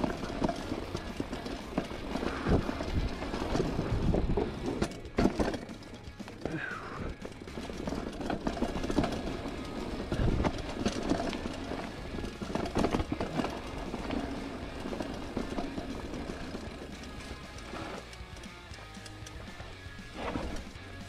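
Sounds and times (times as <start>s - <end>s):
bike rattling over bumps: 0.0s - 21.0s
bike tyres running over dirt: 0.0s - 21.0s.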